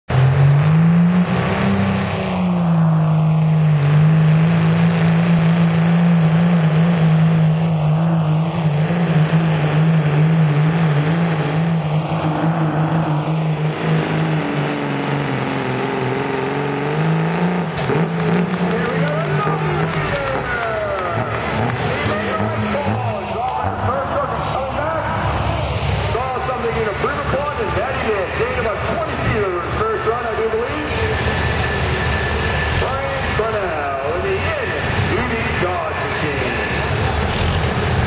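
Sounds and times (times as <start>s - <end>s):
diesel engine at full throttle: 0.0s - 38.0s.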